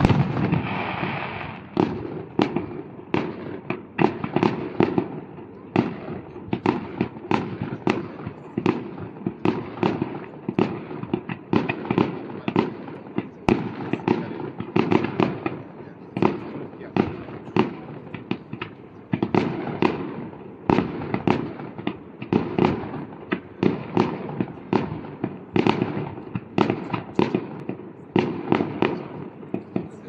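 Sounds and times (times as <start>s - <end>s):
fireworks banging: 0.0s - 30.0s.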